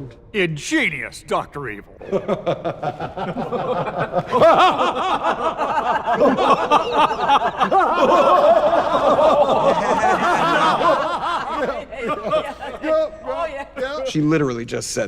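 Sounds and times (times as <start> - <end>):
group of people laughing: 2.0 - 14.2.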